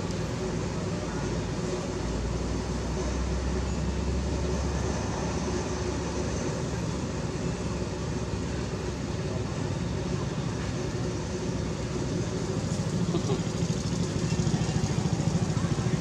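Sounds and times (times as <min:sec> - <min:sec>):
background rumble and hiss: 0:00.0 - 0:16.0.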